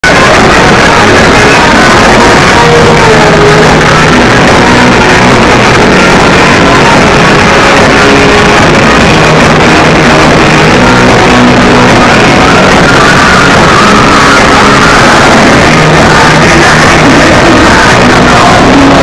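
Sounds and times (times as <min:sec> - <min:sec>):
electric guitar: 0:00.0 - 0:19.0.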